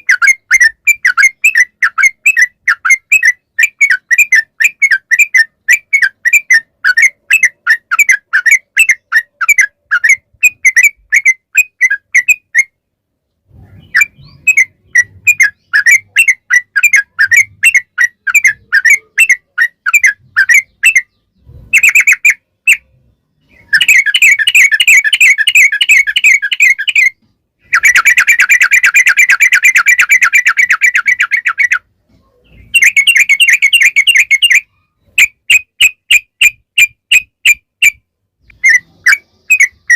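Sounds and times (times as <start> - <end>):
bulbul chirping and trilling: 0.0 - 12.9, 13.5 - 39.9.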